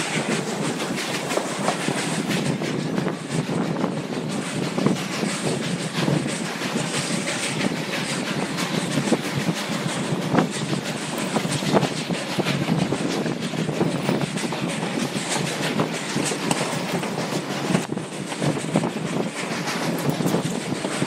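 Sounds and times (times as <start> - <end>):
train rumbling: 0.0 - 21.0
wheels clicking over rail joints: 0.0 - 21.0.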